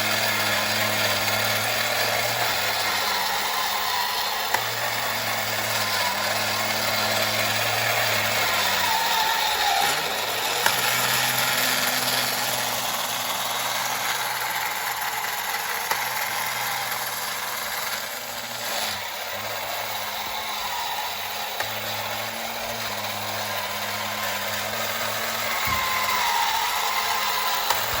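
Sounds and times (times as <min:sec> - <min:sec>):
toy motor and gears whirring: 0:00.0 - 0:28.0.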